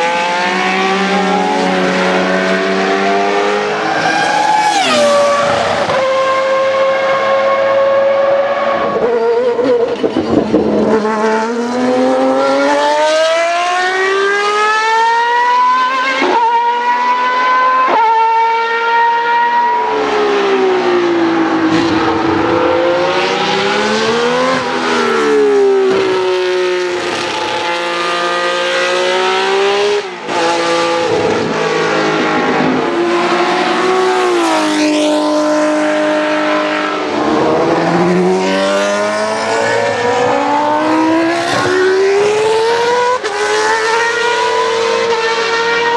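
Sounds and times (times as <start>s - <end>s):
racing car engines at high revs: 0.0s - 45.9s.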